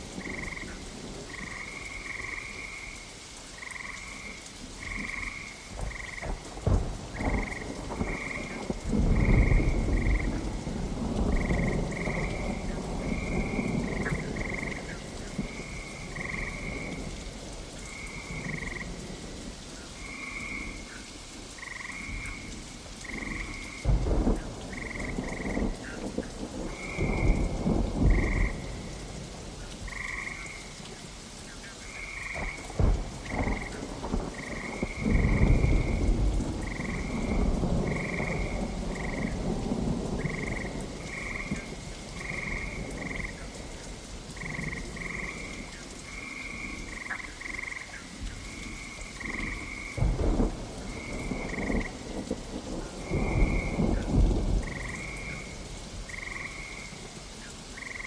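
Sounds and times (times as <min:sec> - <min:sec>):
thunder rumbles: 0:00.0 - 0:03.0, 0:03.6 - 0:20.9, 0:21.5 - 0:31.1, 0:31.8 - 0:58.0
frogs croaking: 0:00.0 - 0:58.0
steady rain: 0:00.0 - 0:58.0.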